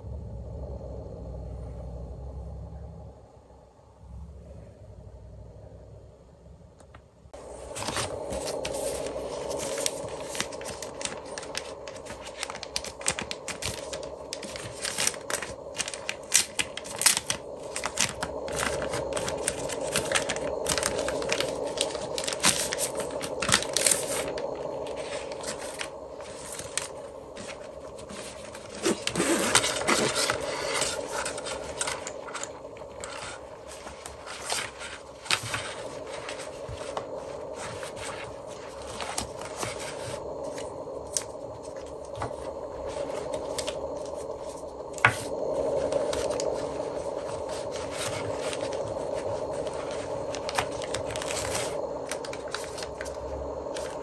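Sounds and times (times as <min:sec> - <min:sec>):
plastic wrap crinkling: 0:07.4 - 0:54.0.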